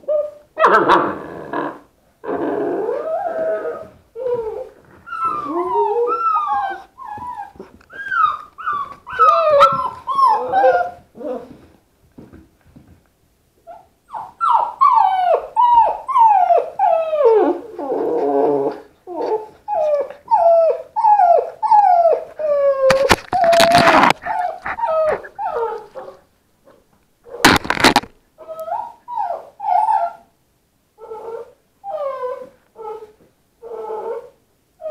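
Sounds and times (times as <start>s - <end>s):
puppy whining: 0.0s - 11.8s, 13.6s - 30.3s, 31.0s - 34.9s.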